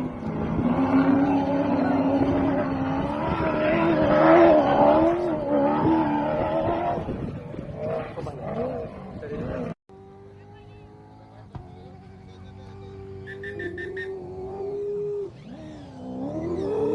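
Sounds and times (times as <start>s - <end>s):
rally car engine passing: 0.0s - 16.9s.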